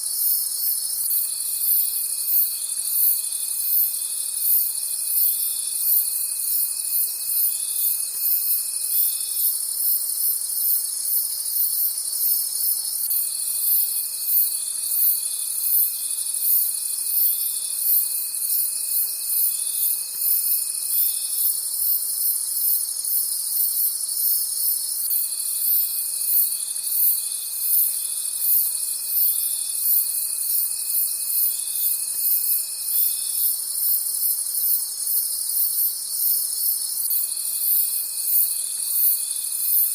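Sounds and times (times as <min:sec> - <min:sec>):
crickets chirping: 0:00.0 - 0:39.9
low insect trill: 0:00.0 - 0:39.9.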